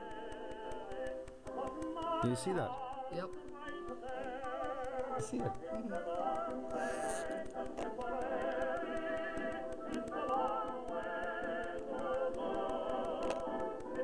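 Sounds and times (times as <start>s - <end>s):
quick regular ticking: 0.0s - 14.0s
wordless singing voices: 0.0s - 14.0s.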